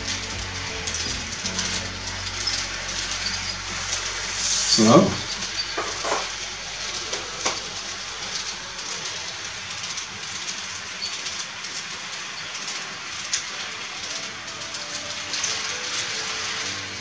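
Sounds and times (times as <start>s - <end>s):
light clicks of train on track: 0.0s - 17.0s
model steam train hissing: 0.0s - 17.0s.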